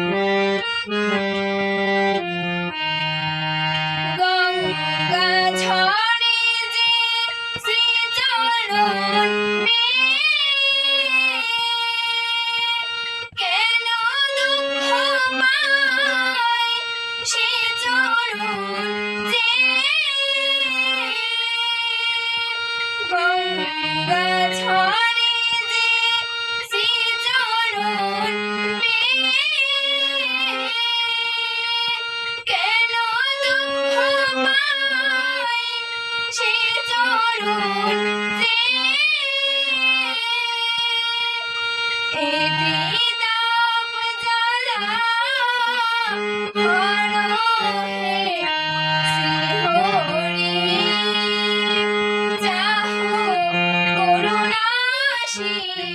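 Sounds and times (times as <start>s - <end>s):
woman singing devotional song: 0.0s - 55.9s.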